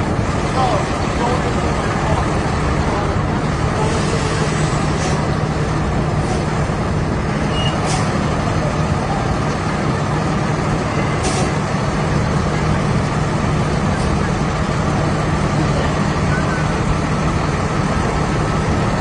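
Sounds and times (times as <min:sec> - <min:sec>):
heavy vehicle idling: 0:00.0 - 0:19.0
street traffic: 0:00.0 - 0:19.0.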